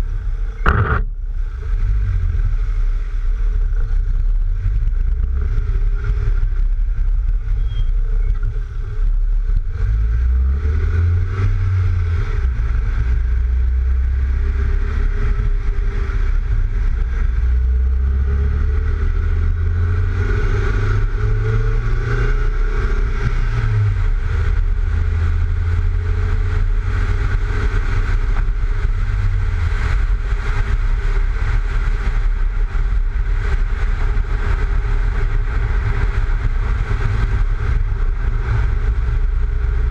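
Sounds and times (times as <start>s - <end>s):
car engine revving: 0.0s - 39.9s
tyre and road noise: 0.0s - 39.9s
wind rumble on microphone: 0.0s - 39.9s.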